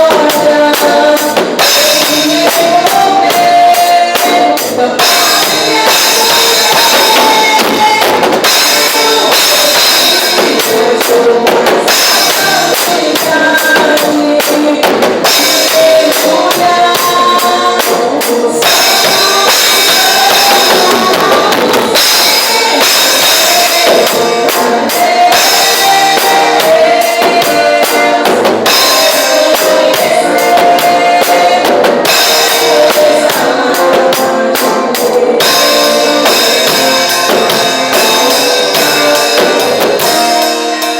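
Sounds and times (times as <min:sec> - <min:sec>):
drum kit: 0:00.0 - 0:40.9
worship band music: 0:00.0 - 0:40.9.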